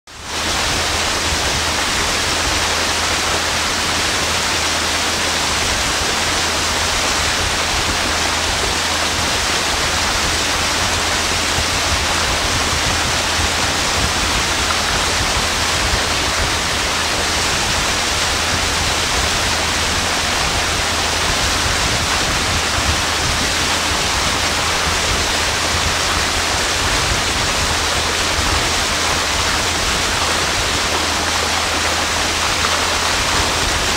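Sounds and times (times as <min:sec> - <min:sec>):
rush of wind and water spray: 0:00.1 - 0:33.9.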